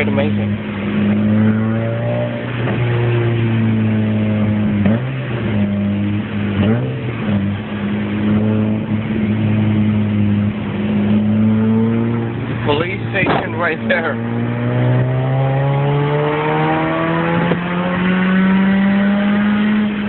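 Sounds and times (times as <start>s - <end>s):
car engine droning while driving: 0.0s - 20.0s.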